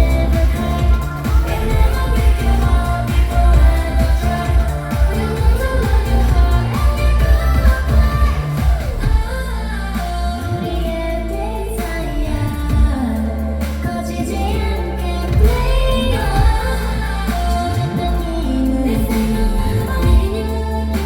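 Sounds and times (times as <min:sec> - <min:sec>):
pop backing track with heavy bass: 0:00.0 - 0:21.0
women singing: 0:00.0 - 0:21.0.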